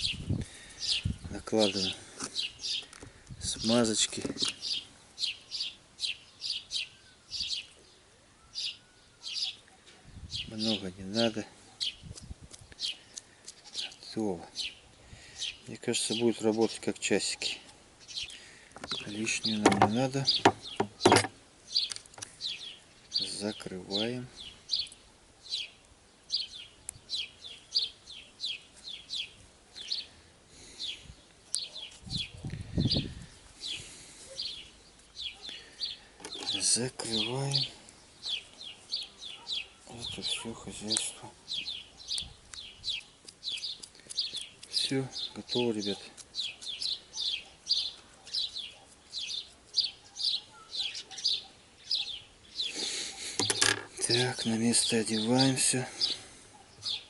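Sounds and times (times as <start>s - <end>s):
small bird chirping: 0.0s - 57.0s.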